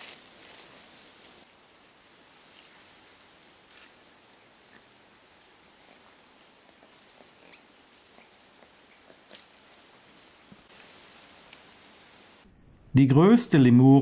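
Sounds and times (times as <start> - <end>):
faint forest hiss: 0.0 - 14.0.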